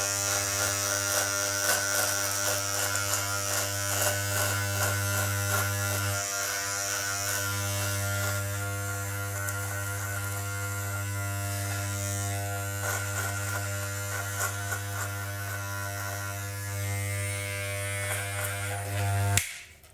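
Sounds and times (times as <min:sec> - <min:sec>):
electric shaver buzzing: 0:00.0 - 0:19.7.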